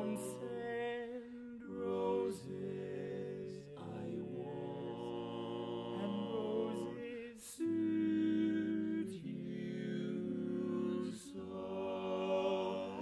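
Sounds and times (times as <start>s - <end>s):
male quartet singing a cappella: 0.0s - 13.0s.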